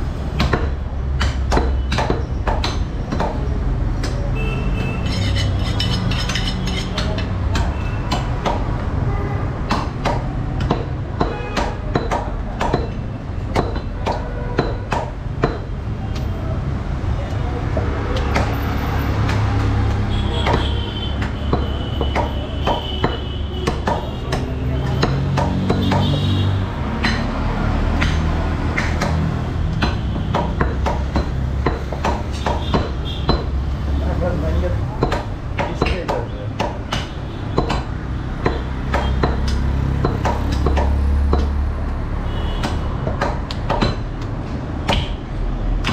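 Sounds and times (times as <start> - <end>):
cleaver chopping meat on wood: 0.2 - 4.4, 6.8 - 8.8, 9.6 - 16.3, 17.7 - 33.8, 34.8 - 45.9.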